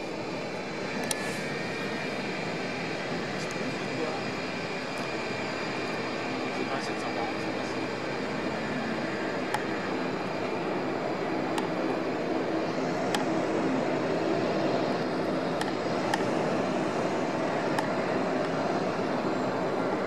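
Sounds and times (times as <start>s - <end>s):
jet engine rushing: 0.0s - 20.0s.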